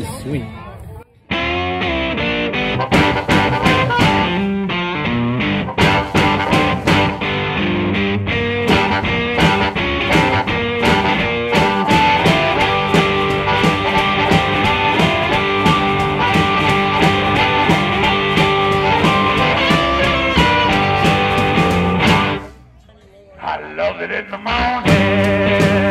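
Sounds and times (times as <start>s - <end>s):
rockabilly guitar music: 1.3s - 22.6s, 24.2s - 25.9s.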